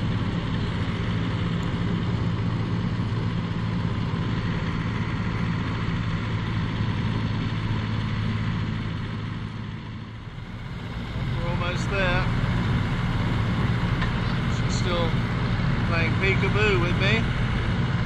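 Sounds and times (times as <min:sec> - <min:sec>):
ferry engine deep hum: 0:00.0 - 0:18.0.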